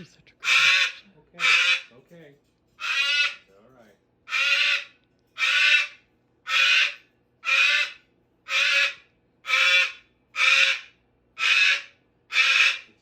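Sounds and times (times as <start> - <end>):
cockatoo screeching: 0.4 - 1.9, 2.8 - 3.5, 4.3 - 13.0.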